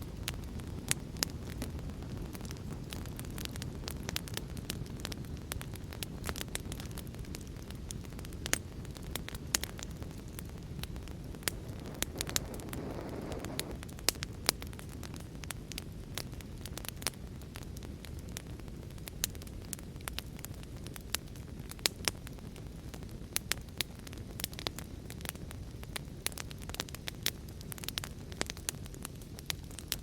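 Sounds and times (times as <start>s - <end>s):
low rumble of fire: 0.0s - 30.0s
wood fire crackling and popping: 0.0s - 30.0s.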